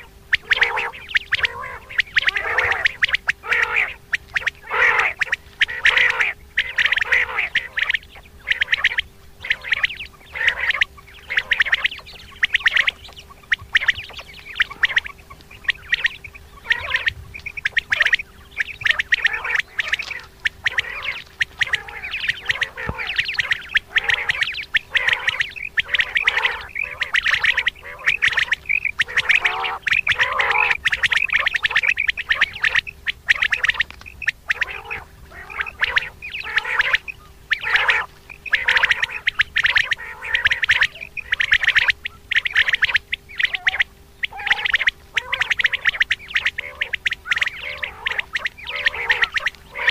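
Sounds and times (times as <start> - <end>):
faint steady hum: 0.0 - 49.9
quail calling: 0.0 - 49.9.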